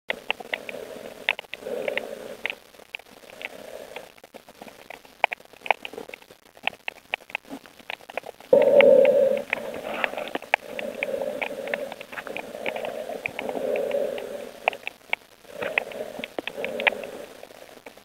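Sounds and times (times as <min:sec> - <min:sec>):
low underwater hum: 0:00.1 - 0:06.4, 0:07.4 - 0:18.0
sharp underwater clicks: 0:00.1 - 0:18.0.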